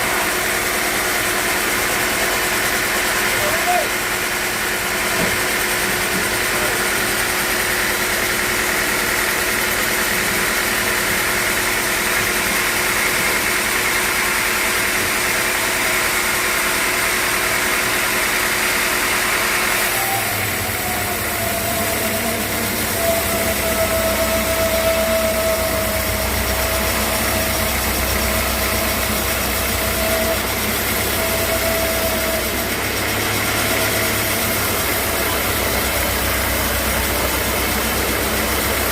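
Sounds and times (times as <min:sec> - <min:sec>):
sawmill machinery droning: 0:00.0 - 0:38.9
steady machine whine: 0:00.0 - 0:38.9.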